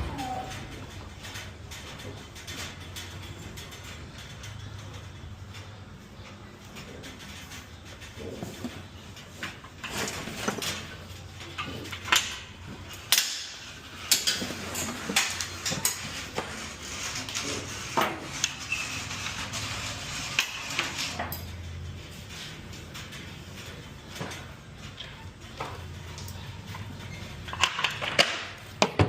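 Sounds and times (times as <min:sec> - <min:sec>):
metal carts rattling and clanking: 0:00.0 - 0:29.0.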